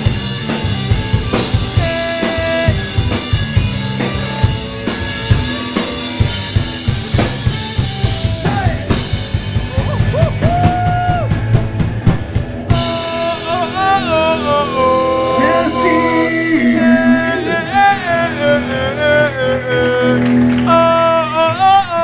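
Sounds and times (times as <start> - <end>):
drum kit: 0.0 - 20.8
electric guitars: 0.0 - 22.0
live rock band playing: 0.0 - 22.0.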